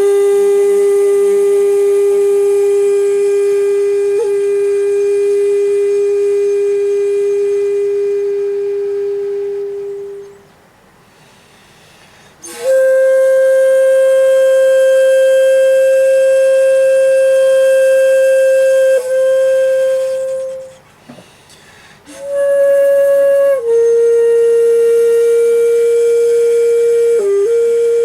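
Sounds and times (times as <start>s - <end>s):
bamboo flute playing slow music: 0.0s - 10.5s, 11.2s - 28.0s.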